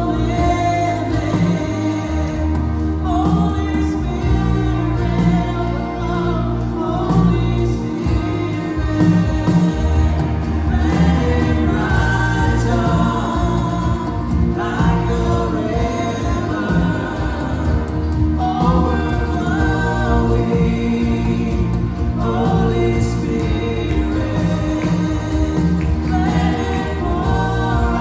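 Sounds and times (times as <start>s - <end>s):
bass line: 0.0s - 28.0s
gospel choir singing: 0.0s - 28.0s
live band playing: 0.0s - 28.0s.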